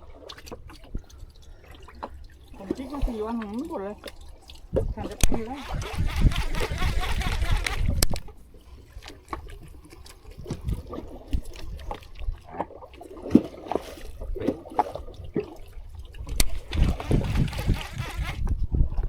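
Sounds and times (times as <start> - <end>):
water sloshing and gurgling: 0.0 - 19.0.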